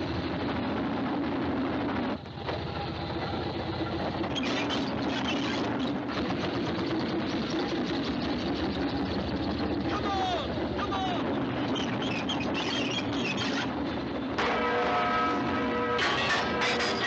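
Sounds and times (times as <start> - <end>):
steam engine chugging: 1.8 - 17.0.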